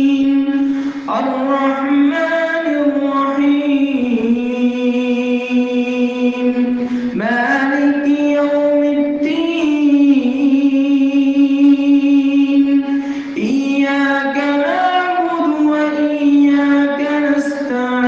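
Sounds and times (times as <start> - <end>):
person chanting recitation: 0.0 - 18.0.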